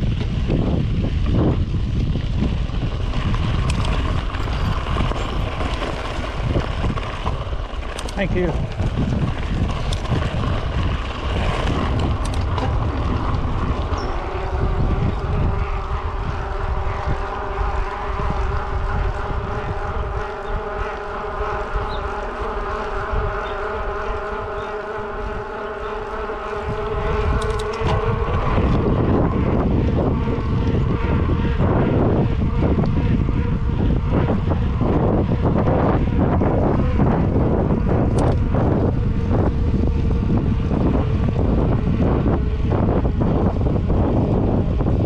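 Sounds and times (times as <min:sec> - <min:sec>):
steady buzzing whine: 0:00.0 - 0:45.0
wind rumble on microphone: 0:00.0 - 0:45.0.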